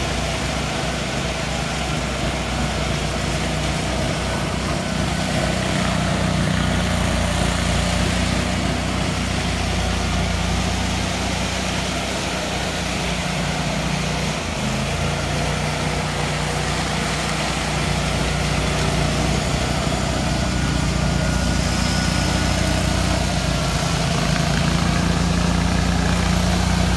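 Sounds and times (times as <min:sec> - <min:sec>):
power trowel engine running: 0:00.0 - 0:26.9.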